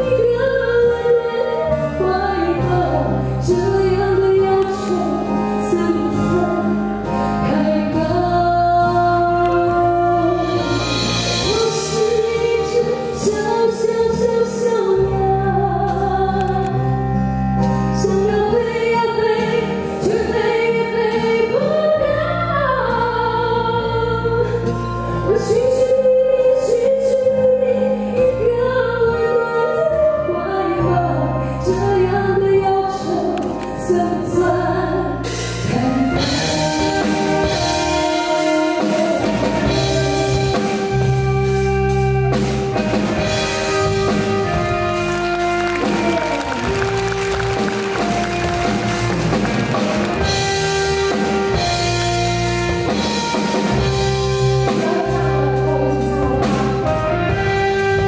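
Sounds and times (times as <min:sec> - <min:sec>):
woman singing into microphone: 0:00.0 - 0:42.3, 0:52.9 - 0:58.0
band with drums and keyboard: 0:00.0 - 0:58.0.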